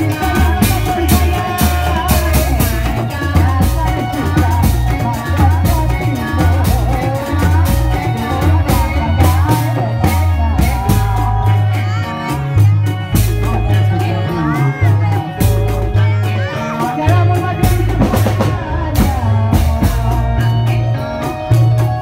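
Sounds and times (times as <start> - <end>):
drums: 0.0 - 22.0
person singing: 0.0 - 22.0.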